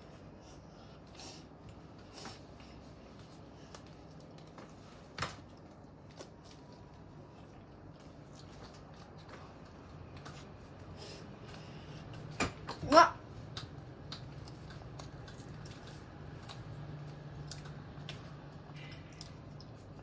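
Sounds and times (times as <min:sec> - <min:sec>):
child eating soft bread: 0:00.0 - 0:20.0.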